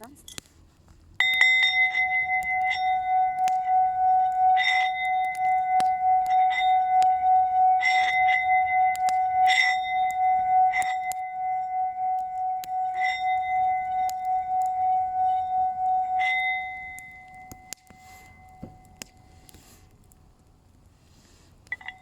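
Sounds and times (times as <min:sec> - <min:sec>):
singing bowl ringing: 0:01.2 - 0:19.6, 0:21.7 - 0:22.0.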